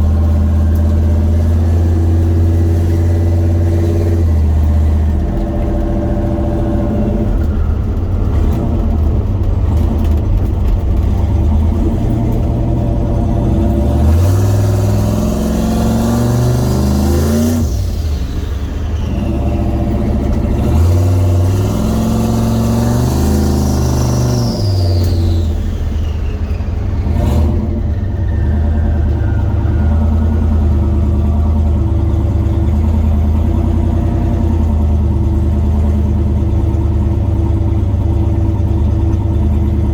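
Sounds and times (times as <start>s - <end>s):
high turbo whine: 0.0s - 39.9s
truck engine revving: 0.0s - 39.9s.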